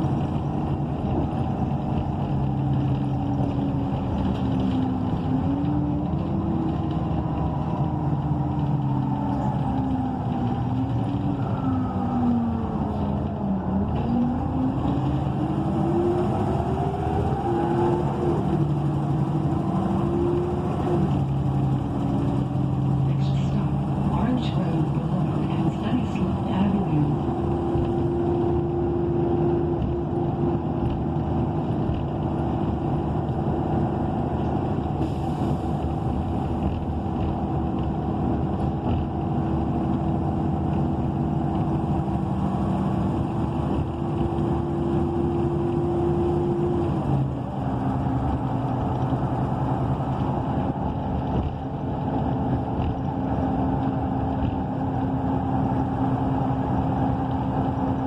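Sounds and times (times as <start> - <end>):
bus engine rumble from inside: 0.0 - 58.0.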